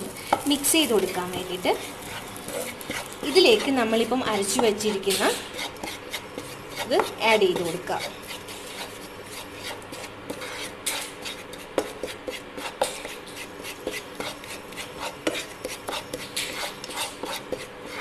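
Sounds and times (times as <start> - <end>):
spatula scraping a frying pan: 0.0 - 18.0.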